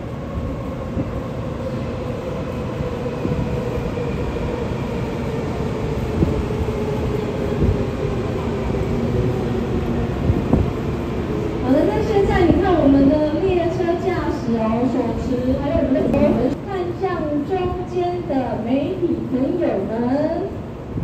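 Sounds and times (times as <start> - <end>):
train hum and rumble: 0.0 - 21.0.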